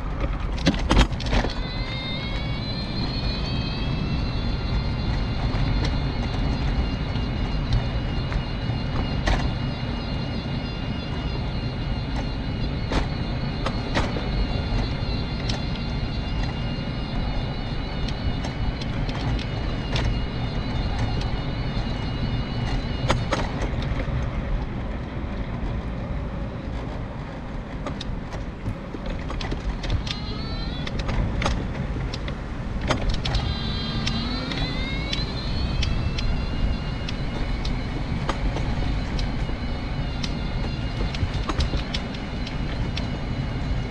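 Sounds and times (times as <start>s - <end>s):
wheels rumbling on rough tarmac: 0.0s - 43.9s
electric motor whining: 0.9s - 24.2s, 29.8s - 43.9s.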